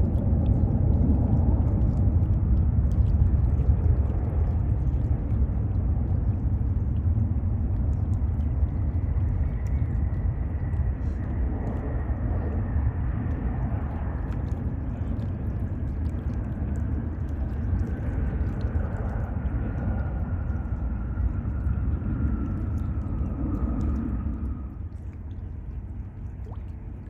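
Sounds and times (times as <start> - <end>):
jet airliner engines rumbling: 0.0 - 27.0.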